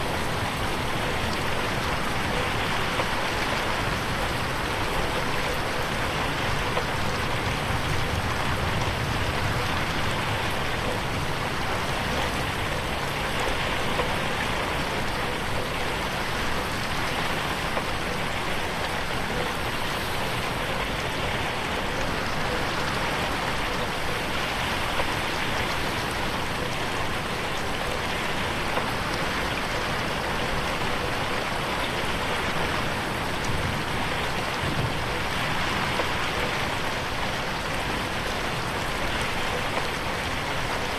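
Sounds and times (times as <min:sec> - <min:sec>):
rain pattering on a window: 0:00.0 - 0:40.9.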